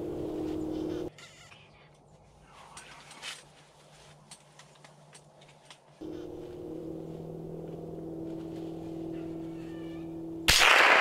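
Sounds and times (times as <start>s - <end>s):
steady low hum with tones: 0.0s - 10.6s
light rustles: 0.4s - 10.1s.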